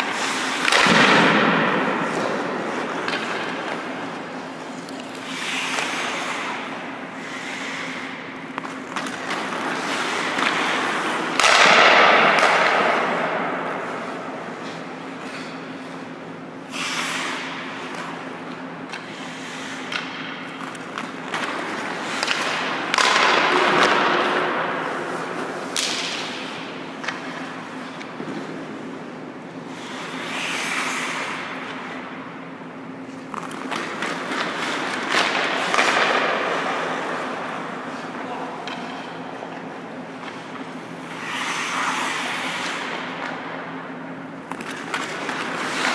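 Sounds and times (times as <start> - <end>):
skate blades scraping on ice: 0.0 - 29.1, 29.7 - 32.1, 39.1 - 43.5, 44.4 - 45.9
stick and puck clacks: 0.0 - 45.9.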